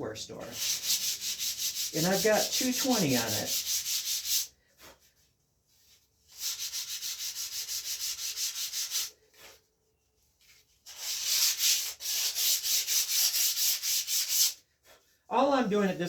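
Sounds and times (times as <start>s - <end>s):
sandpaper rubbing back and forth: 0.4s - 9.7s, 10.4s - 15.2s.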